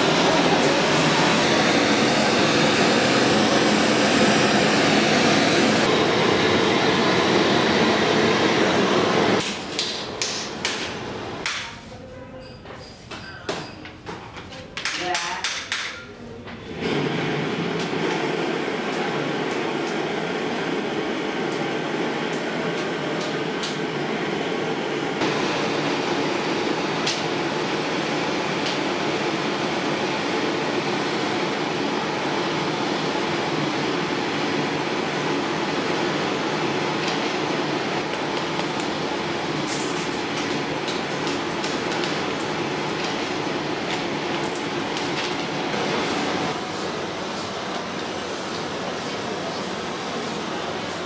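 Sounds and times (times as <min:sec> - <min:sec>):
gas torch burning: 0:00.0 - 0:11.6, 0:16.7 - 0:51.0.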